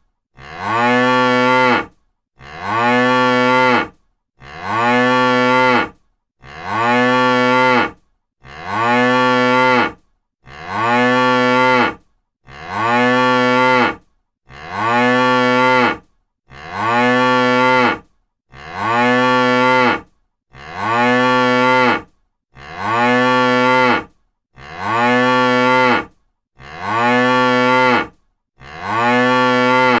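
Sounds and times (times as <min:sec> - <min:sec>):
cow mooing: 0:00.4 - 0:30.0.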